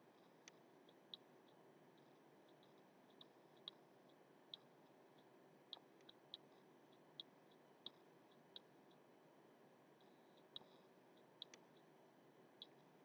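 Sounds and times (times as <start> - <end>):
faint clicks: 0.2 - 9.1, 10.0 - 11.9.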